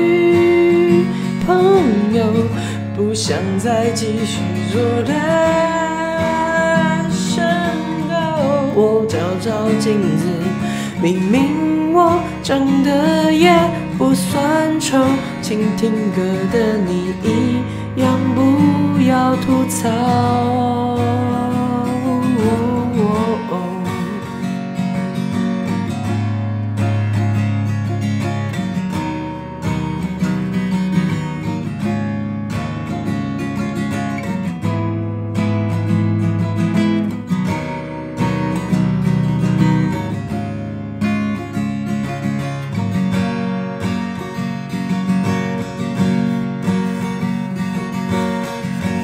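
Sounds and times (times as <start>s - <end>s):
acoustic guitar strumming chords: 0.0s - 49.0s.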